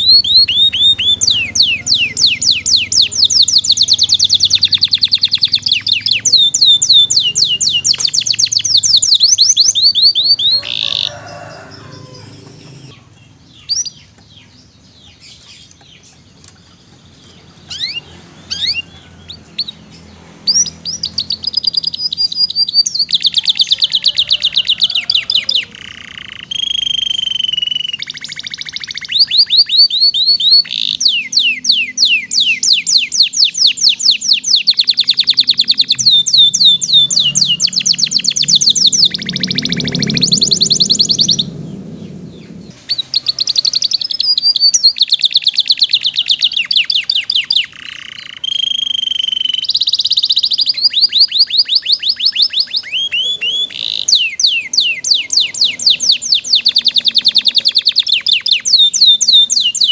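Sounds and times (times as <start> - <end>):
canary singing in trills: 0.0 - 59.9.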